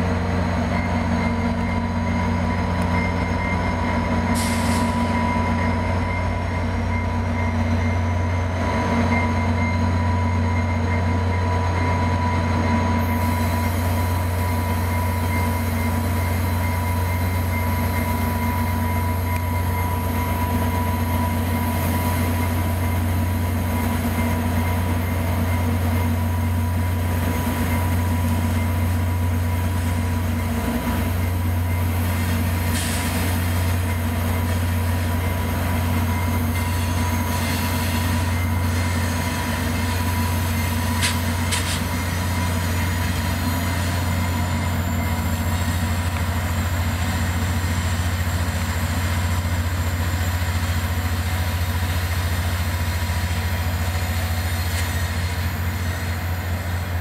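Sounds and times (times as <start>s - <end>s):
diesel locomotives low drone: 0.0s - 57.0s.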